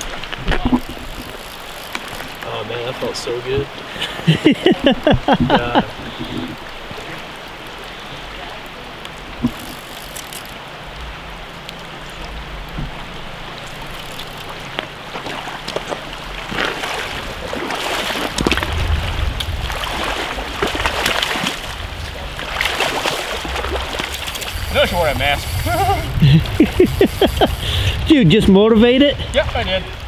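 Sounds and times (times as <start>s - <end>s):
river rushing over stones: 0.0s - 30.0s.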